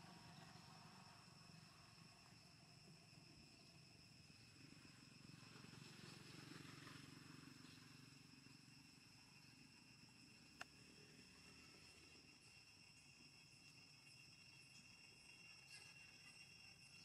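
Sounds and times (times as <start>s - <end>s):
high drone of insects: 0.0s - 17.0s.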